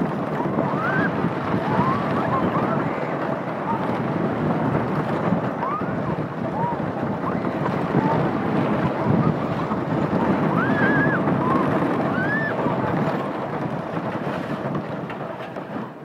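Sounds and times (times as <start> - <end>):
roller coaster train rumbling: 0.0 - 16.0
wind buffeting microphone: 0.0 - 16.0.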